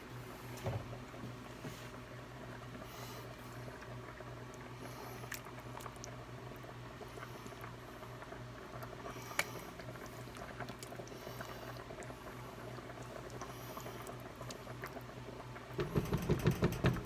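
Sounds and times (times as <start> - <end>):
steady low hum: 0.0 - 17.0
pot bubbling and popping: 2.2 - 17.0.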